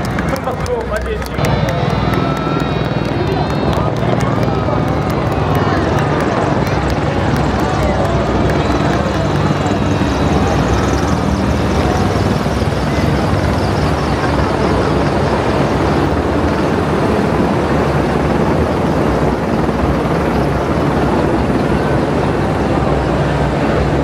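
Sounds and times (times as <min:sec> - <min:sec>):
heavy engines droning: 0:00.0 - 0:24.0.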